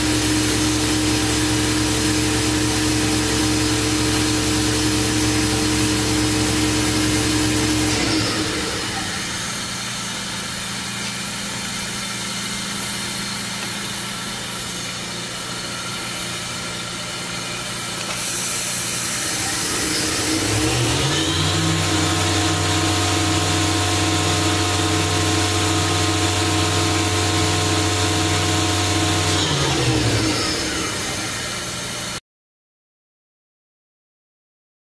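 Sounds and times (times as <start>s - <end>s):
machine background hum: 0.0s - 32.2s
machine spindle whine: 0.0s - 32.2s.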